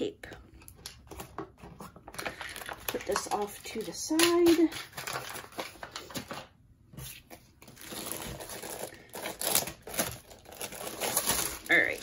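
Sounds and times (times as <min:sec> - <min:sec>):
plastic wrapping crinkling: 0:00.7 - 0:12.0.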